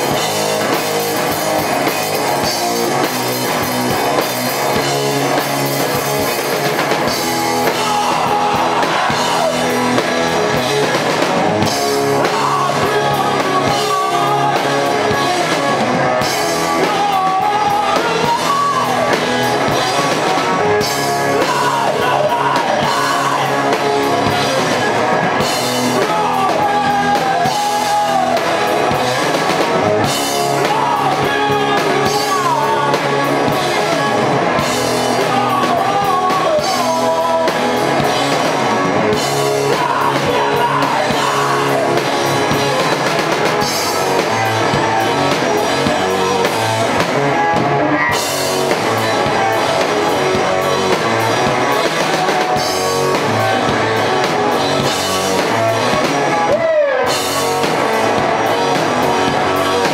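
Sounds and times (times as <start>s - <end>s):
drums: 0.0s - 59.9s
electric guitar: 0.0s - 59.9s
live rock band: 0.0s - 59.9s
person singing: 0.0s - 59.9s.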